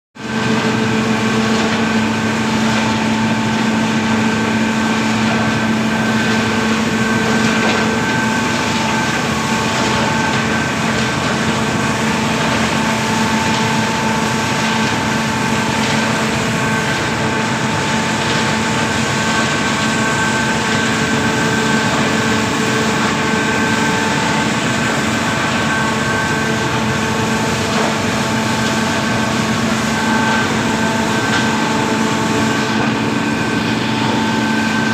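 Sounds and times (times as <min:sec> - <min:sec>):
belt conveyor rumbling: 0:00.2 - 0:34.9
steady humming tones: 0:00.3 - 0:34.9.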